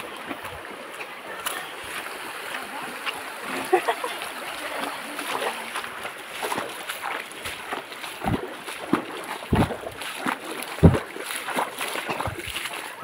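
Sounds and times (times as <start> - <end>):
footsteps splashing through stream: 0.0 - 13.0.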